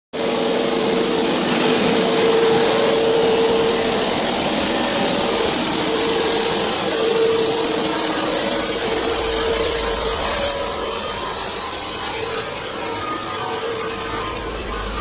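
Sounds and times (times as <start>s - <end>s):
welding machine running: 0.2s - 15.0s.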